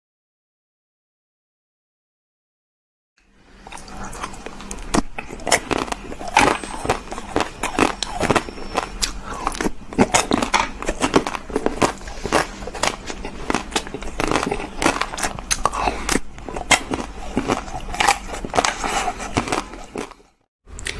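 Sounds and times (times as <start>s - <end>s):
chewing crunchy sweets: 3.6s - 20.9s.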